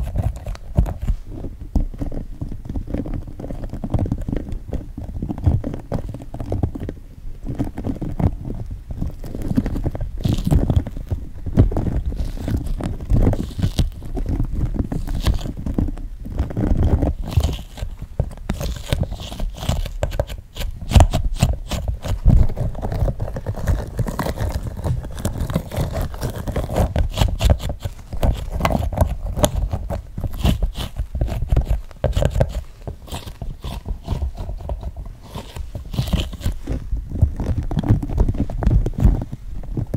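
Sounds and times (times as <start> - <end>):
toy figures scraping and rubbing: 0.0 - 4.5, 9.0 - 39.9.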